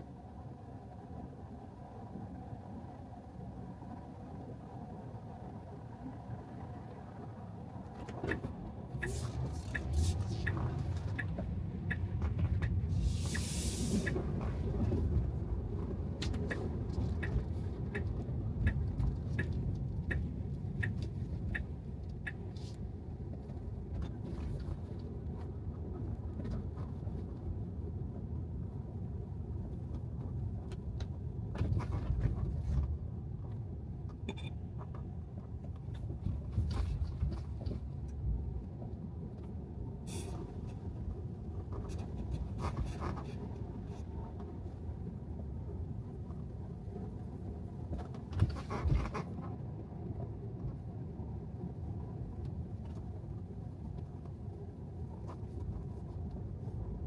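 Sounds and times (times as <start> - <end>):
tyre and road noise: 5.5 - 57.0.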